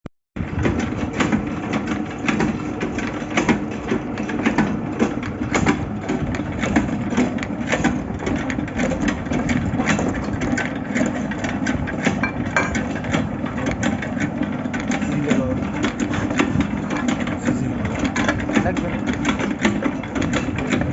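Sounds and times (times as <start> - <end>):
machine running steadily: 0.4 - 20.9
irregular clicks and knocks: 0.5 - 20.9.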